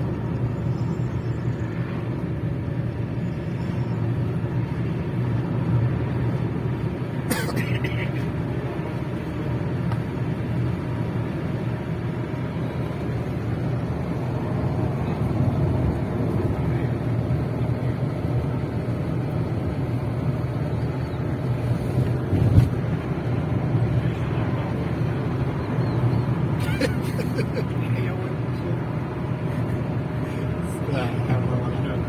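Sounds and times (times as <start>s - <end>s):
vehicle engine and road rumble: 0.0s - 32.0s.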